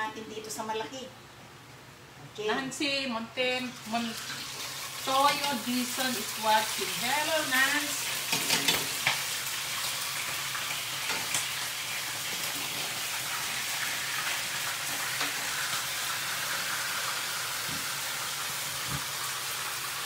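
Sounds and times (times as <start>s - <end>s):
meat sizzling in hot oil: 3.8s - 20.0s.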